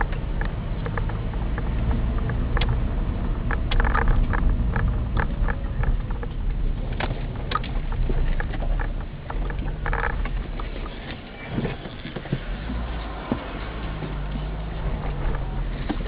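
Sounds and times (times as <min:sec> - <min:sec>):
car engine and road rumble: 0:00.0 - 0:16.0
clicks and rattles: 0:00.0 - 0:16.0.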